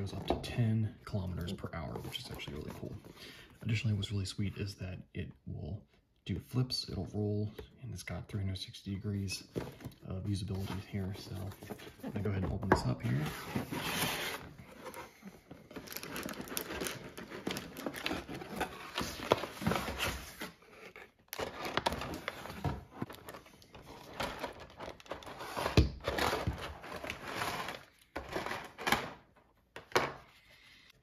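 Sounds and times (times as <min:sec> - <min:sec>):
cardboard and plastic packaging rustling: 0:00.0 - 0:04.1, 0:09.0 - 0:30.7.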